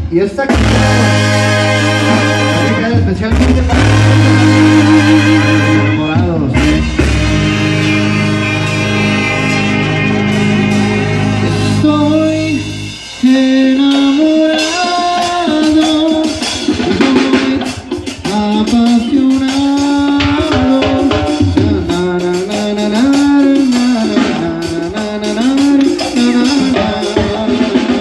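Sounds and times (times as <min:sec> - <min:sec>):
brass band music: 0:00.0 - 0:28.0
tuba bass line: 0:00.0 - 0:28.0.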